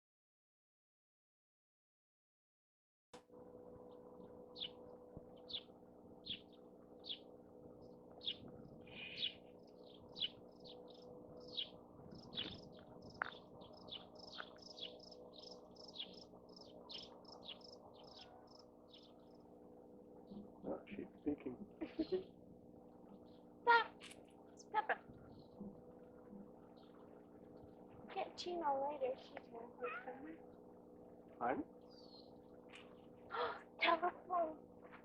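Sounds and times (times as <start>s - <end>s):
steady low hum: 3.2s - 35.0s
birds chirping: 3.8s - 34.6s.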